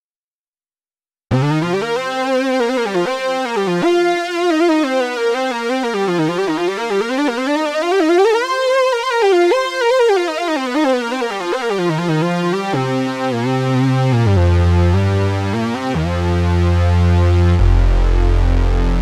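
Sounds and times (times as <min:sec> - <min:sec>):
synthesizer bass and chords: 0:01.3 - 0:19.0
synthesizer lead melody: 0:01.3 - 0:19.0.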